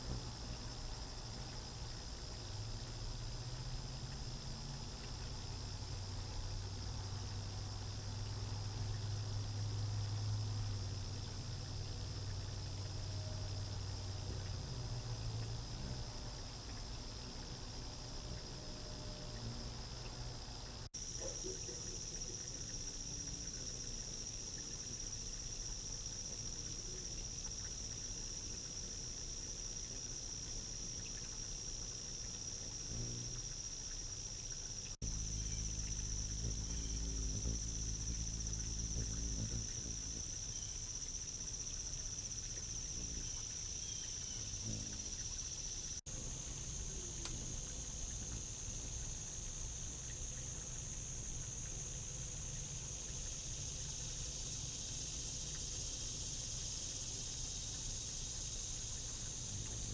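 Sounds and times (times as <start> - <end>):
insects chorus drone: 0.0 - 59.9.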